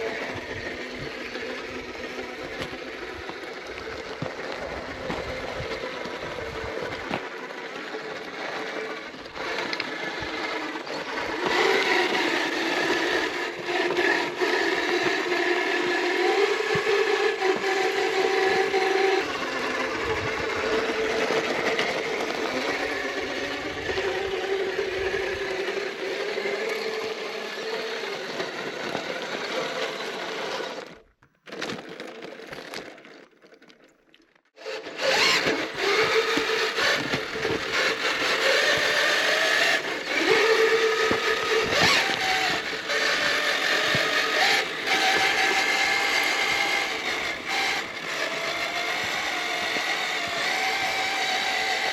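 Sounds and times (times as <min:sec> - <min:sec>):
electric motor whining: 0:00.0 - 0:31.0, 0:34.6 - 0:51.9
tyres scraping over rock: 0:00.0 - 0:33.9, 0:34.9 - 0:51.9.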